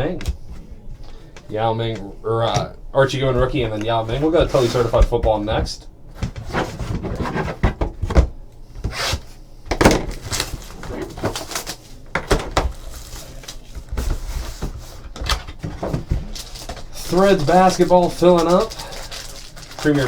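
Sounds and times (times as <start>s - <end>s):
cardboard and wrappers rustling: 0.0s - 20.0s.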